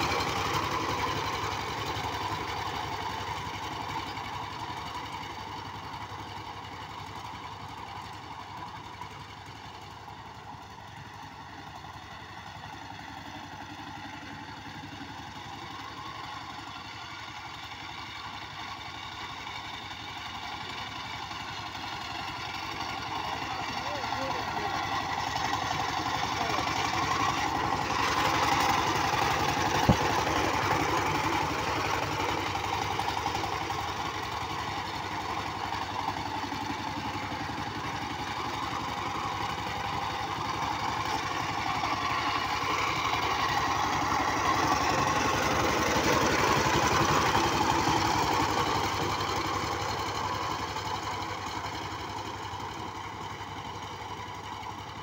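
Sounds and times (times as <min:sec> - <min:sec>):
power tiller engine running: 0:00.0 - 0:55.0.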